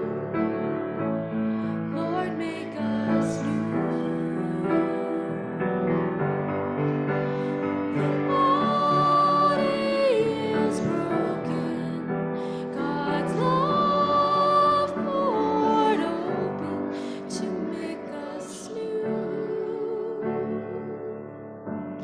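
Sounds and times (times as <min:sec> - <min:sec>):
person singing a hymn: 0:00.0 - 0:05.9, 0:07.2 - 0:22.0
piano accompaniment: 0:00.0 - 0:22.0.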